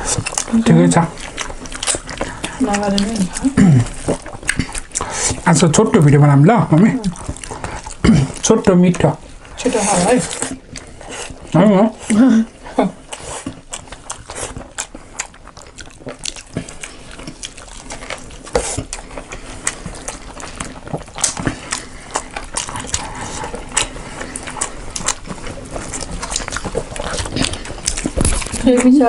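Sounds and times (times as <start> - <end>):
wet chewing and mouth clicks: 0.0 - 29.0.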